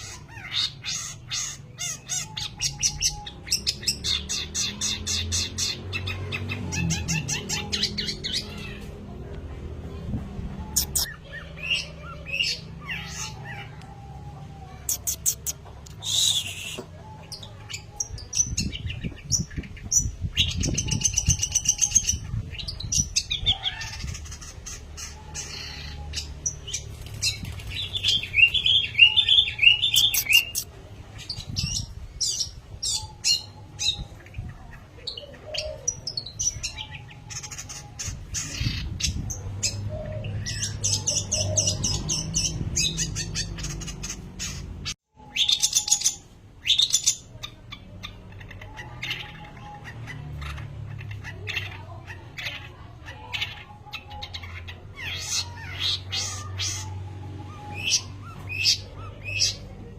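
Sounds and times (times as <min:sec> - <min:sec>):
bird singing chirps and trills: 0:00.0 - 0:59.9.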